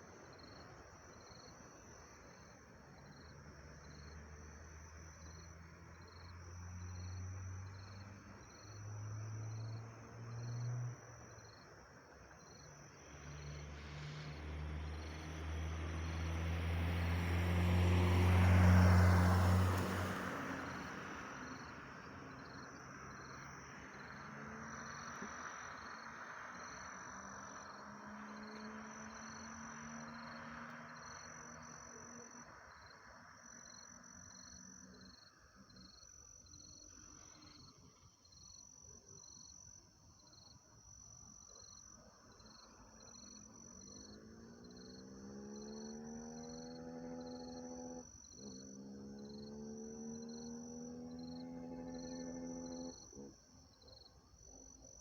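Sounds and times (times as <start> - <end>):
passing vehicle: 0.0 - 38.2, 41.2 - 55.0
crickets chirping: 0.0 - 55.0.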